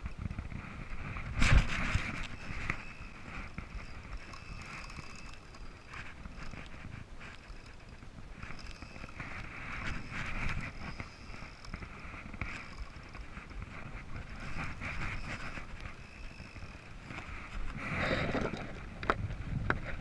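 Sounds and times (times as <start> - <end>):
choppy water against kayak: 0.0 - 20.0
wind on microphone: 0.0 - 20.0.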